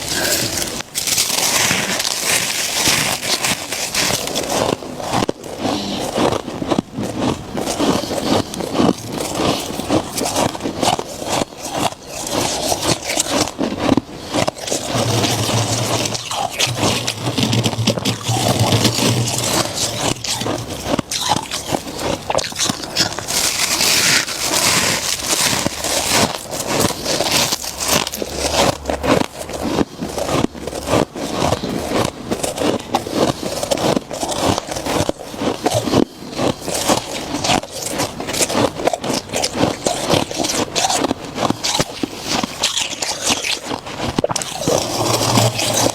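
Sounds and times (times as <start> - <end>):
frost being chewed: 0.0 - 45.9.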